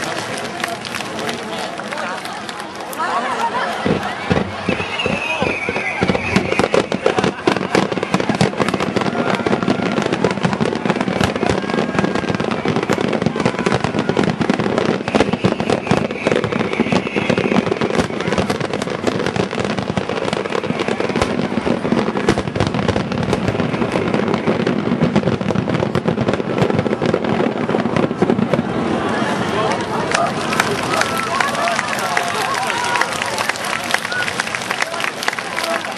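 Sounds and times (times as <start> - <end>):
firework bangs and crackle: 0.0 - 35.9.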